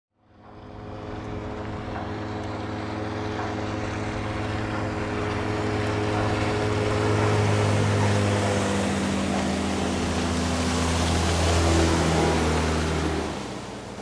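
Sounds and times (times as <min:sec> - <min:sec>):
outboard motor running: 0:00.1 - 0:14.0.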